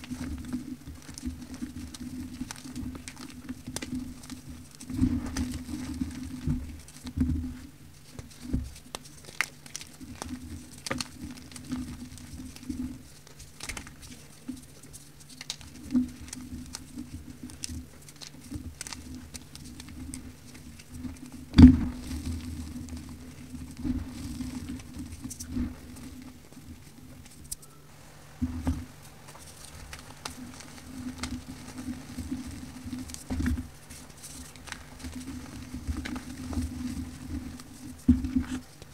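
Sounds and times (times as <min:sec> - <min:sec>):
powder bars crackling in hands: 0:00.0 - 0:07.2, 0:08.0 - 0:38.9.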